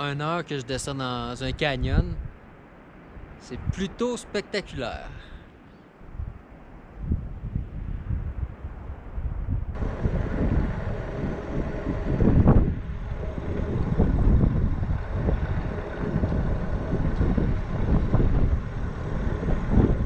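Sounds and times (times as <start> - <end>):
wind buffeting microphone: 1.3 - 4.0, 6.0 - 20.0.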